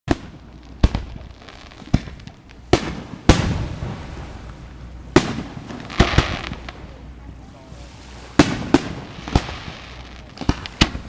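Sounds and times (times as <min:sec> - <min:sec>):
fireworks bangs echoing: 0:00.1 - 0:07.0, 0:08.2 - 0:11.0.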